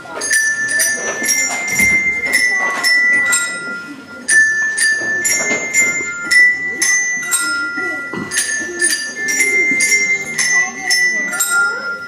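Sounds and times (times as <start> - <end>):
bells struck: 0.0 - 12.0.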